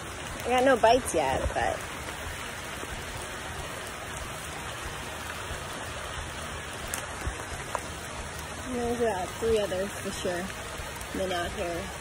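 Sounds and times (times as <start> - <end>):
pouring rain: 0.0 - 12.0
raindrops ticking: 0.0 - 12.0.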